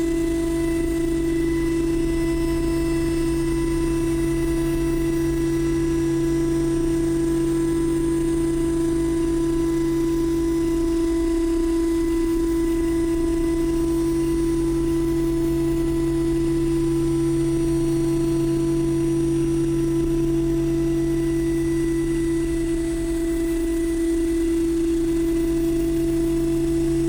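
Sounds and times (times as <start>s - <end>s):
milling machine spindle whine: 0.0s - 27.0s.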